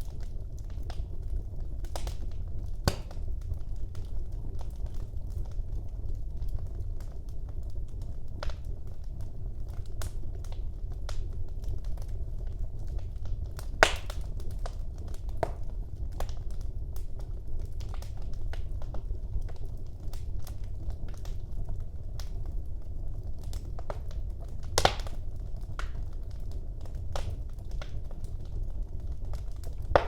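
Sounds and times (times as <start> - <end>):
low steady rumble: 0.0 - 30.0
wood fire crackling: 0.0 - 30.0.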